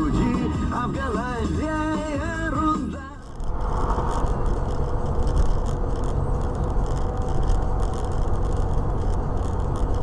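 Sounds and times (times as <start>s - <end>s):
car road noise and engine drone: 0.0s - 10.0s.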